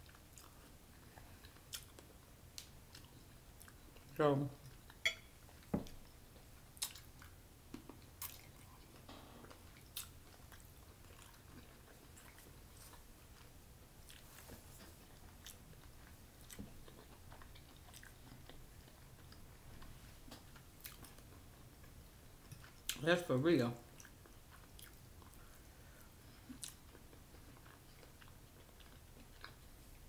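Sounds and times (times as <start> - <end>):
person chewing: 0.0 - 19.4, 20.5 - 23.0, 23.9 - 29.7.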